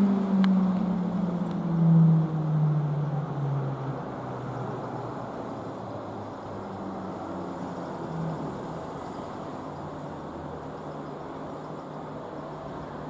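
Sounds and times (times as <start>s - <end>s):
vehicle passing by: 0.0s - 11.5s
road traffic noise: 0.0s - 13.0s.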